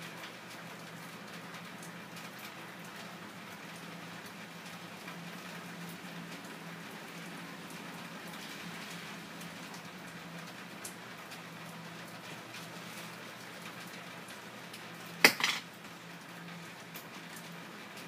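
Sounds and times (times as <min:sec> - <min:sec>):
light rain pattering: 0:00.0 - 0:18.0.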